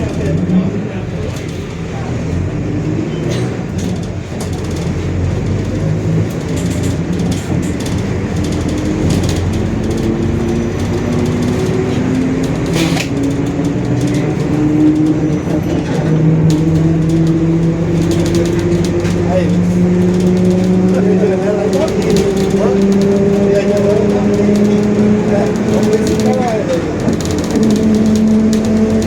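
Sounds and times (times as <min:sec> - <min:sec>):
bus engine drone with whine: 0:00.0 - 0:29.0
clicks and rattles: 0:03.2 - 0:29.0.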